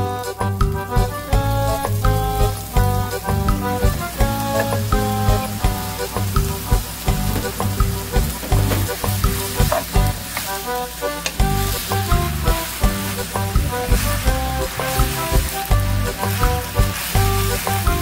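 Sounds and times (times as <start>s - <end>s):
background music with steady beat: 0.0s - 18.0s
seaweed sizzling in frying pan: 1.0s - 18.0s.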